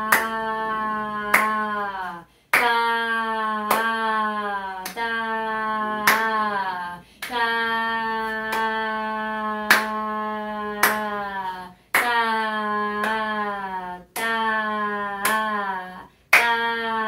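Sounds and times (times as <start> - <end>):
hands clapping a steady pulse: 0.0 - 5.2, 5.8 - 15.7, 16.3 - 17.0
woman singing a held syllable: 0.0 - 17.0.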